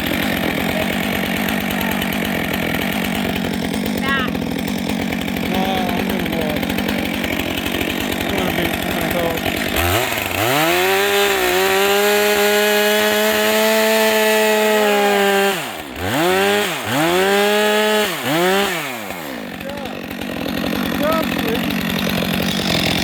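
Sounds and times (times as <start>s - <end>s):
chainsaw idling and revving: 0.0s - 23.0s.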